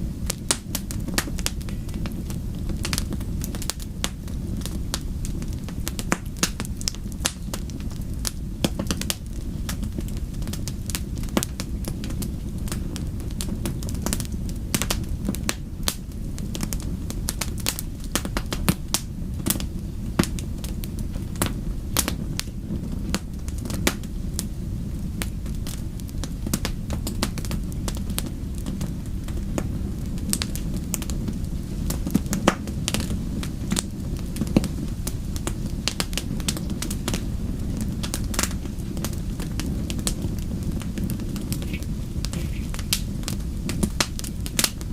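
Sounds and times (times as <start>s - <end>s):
low rumble of flames: 0.0s - 44.9s
wood fire crackling and popping: 0.0s - 44.9s.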